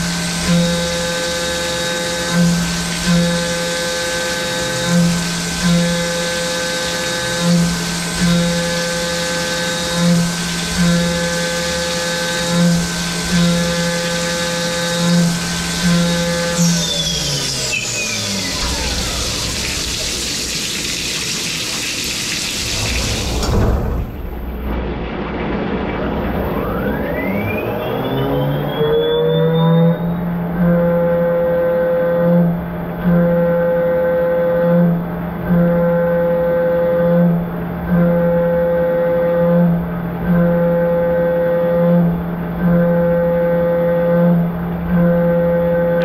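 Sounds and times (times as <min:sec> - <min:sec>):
milling spindle whine: 0:00.0 - 0:20.5, 0:25.4 - 0:46.0.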